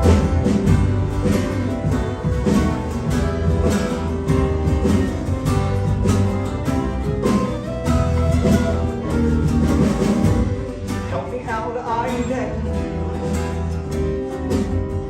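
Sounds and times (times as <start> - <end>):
band playing country-folk music: 0.0 - 15.0
plucked guitar: 0.0 - 15.0.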